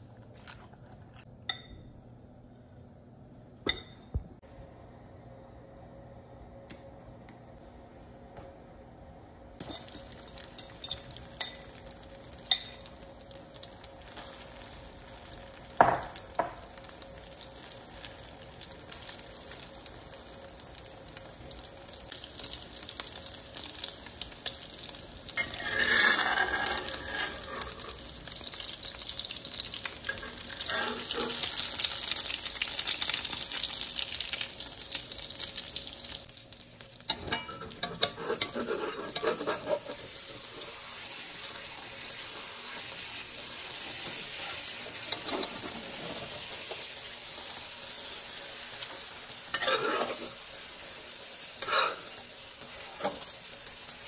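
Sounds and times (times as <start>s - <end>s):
omelette sizzling in a wok: 9.6s - 54.0s.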